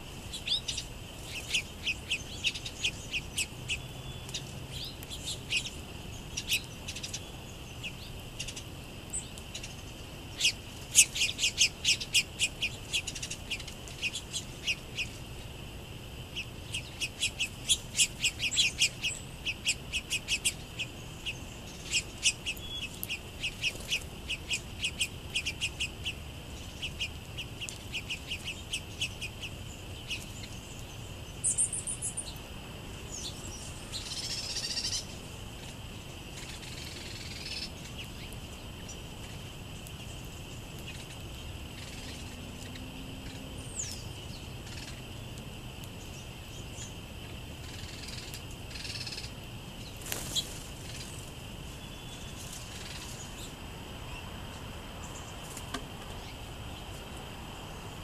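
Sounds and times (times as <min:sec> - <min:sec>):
insect trill: 0:00.0 - 0:58.0
songbirds chipping: 0:00.0 - 0:58.0.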